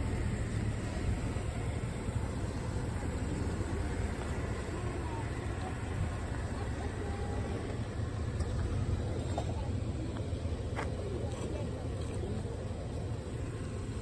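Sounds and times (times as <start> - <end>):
faint voices: 0.0 - 14.0
low outdoor rumble: 0.0 - 14.0.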